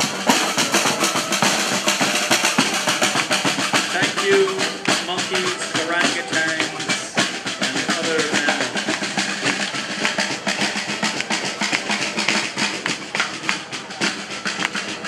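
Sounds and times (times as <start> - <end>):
hand percussion: 0.0 - 15.0
snare and bass drums: 0.0 - 15.0.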